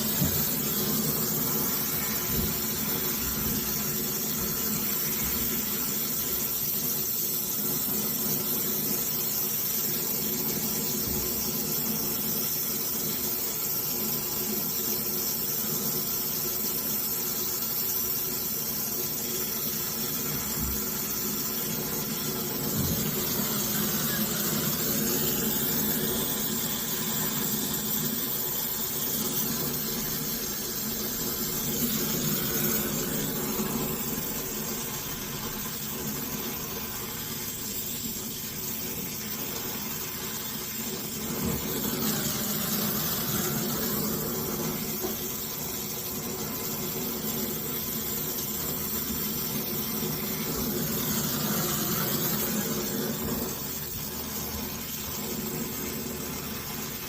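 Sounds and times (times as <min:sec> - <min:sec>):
machine hum with hiss: 0:00.0 - 0:57.0.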